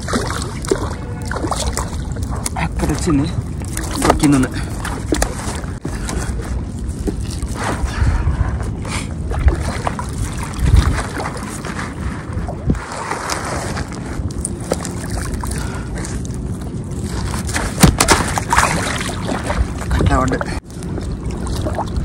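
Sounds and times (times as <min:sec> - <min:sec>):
water sloshing: 0:00.0 - 0:08.6, 0:09.2 - 0:22.0
wind buffeting microphone: 0:00.0 - 0:22.0.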